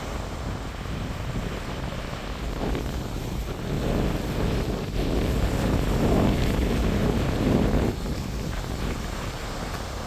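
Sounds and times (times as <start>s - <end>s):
small waves washing on beach: 0.0s - 10.0s
wind buffeting microphone: 0.0s - 10.0s.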